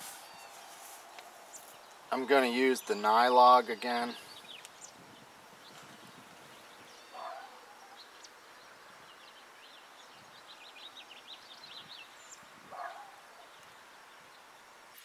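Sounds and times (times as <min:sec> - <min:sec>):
faint outdoor hush: 0:00.0 - 0:15.0
small birds chirping: 0:00.0 - 0:15.0.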